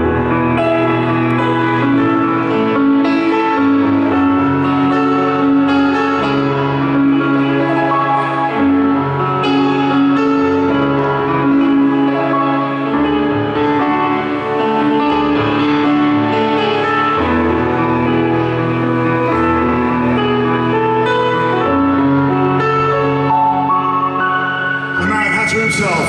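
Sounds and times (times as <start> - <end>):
keyboard chords over bass: 0.0 - 26.0.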